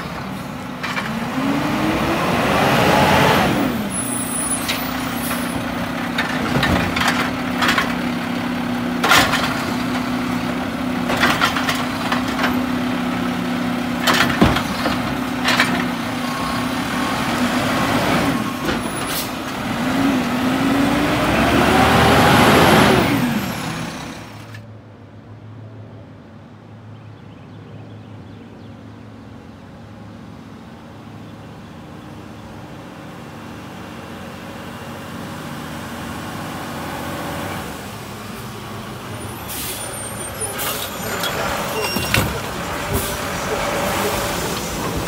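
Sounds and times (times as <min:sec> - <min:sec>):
garbage truck engine revving: 0:00.0 - 0:24.6, 0:33.6 - 0:45.0
truck engine droning: 0:00.0 - 0:45.0.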